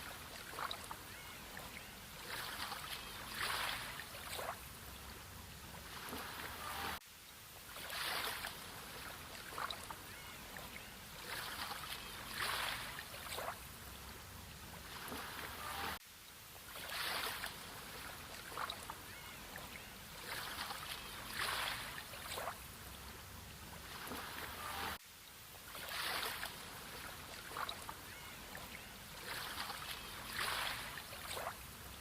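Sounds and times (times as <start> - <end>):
sea water lapping: 0.0 - 7.0, 7.6 - 16.0, 16.6 - 25.0, 25.6 - 32.0.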